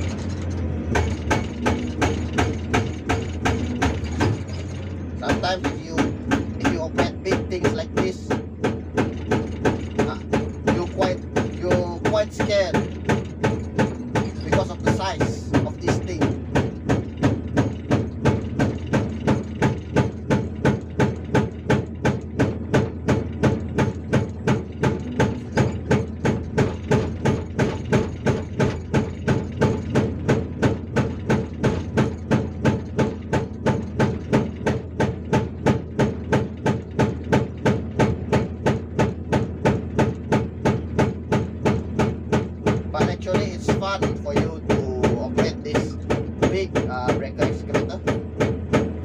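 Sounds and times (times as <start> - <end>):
diesel engine under load: 0.0 - 49.0
hydraulic breaker hammering rock: 0.0 - 49.0.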